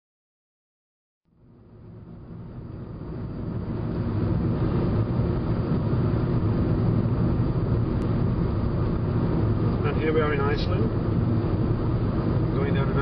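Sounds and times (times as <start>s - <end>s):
car engine and tyre rumble: 1.3s - 13.0s.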